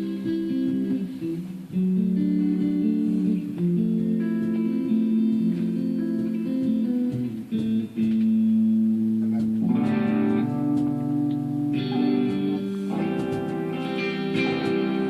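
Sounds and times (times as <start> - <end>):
guitar picked notes and chords: 0.0 - 15.0
strummed guitar chords: 0.0 - 15.0.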